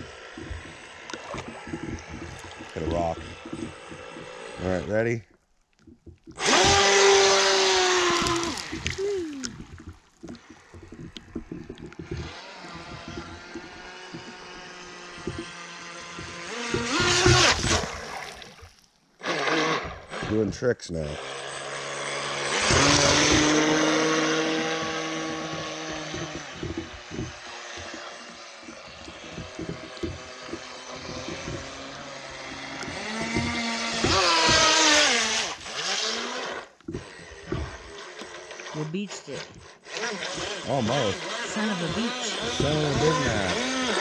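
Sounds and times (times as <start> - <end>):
model speedboat motor whine: 0.0 - 5.3, 6.0 - 44.0.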